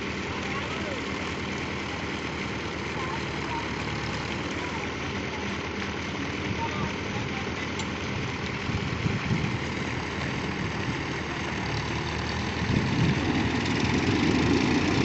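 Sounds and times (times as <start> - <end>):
diesel tractor engines idling: 0.0 - 15.0.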